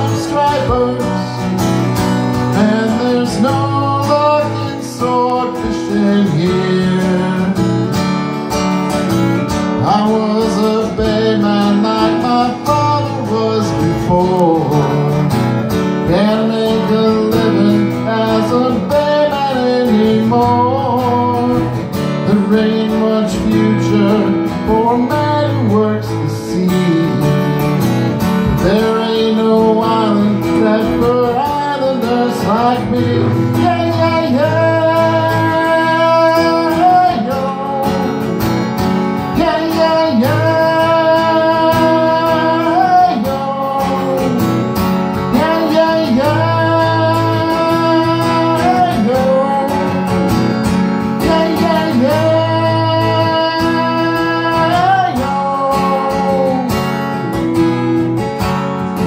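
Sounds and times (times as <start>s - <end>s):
man singing: 0.0s - 58.0s
acoustic guitar strummed: 0.0s - 59.0s.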